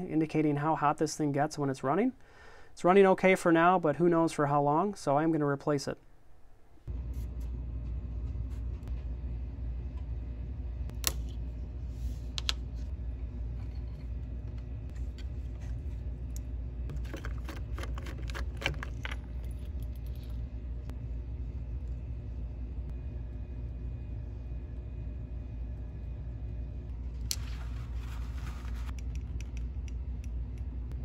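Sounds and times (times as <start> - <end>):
steady low hum: 5.9 - 31.0.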